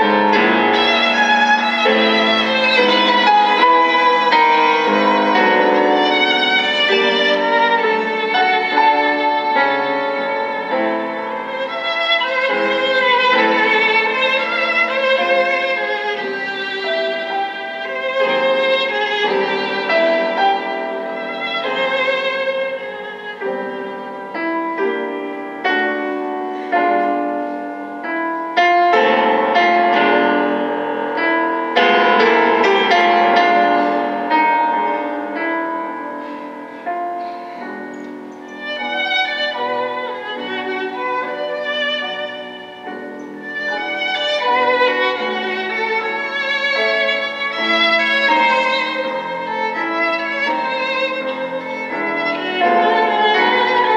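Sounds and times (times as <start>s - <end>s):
classical violin music: 0.0s - 53.9s.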